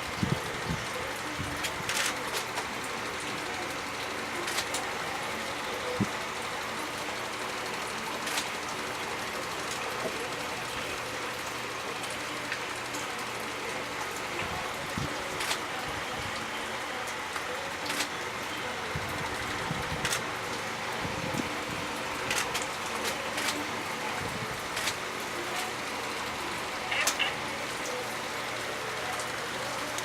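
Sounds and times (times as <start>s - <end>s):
steady outdoor hiss: 0.0s - 30.0s.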